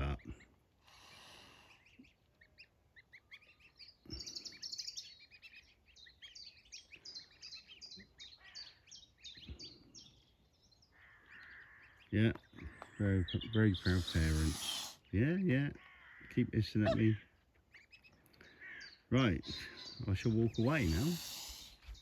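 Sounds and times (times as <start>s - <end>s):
goslings peeping: 0.0s - 15.1s, 15.7s - 22.0s.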